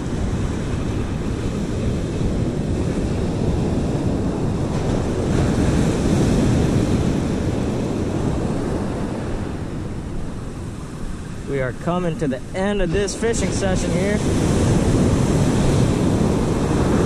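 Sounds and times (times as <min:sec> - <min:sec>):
surf breaking: 0:00.0 - 0:17.0
wind buffeting microphone: 0:00.0 - 0:17.0.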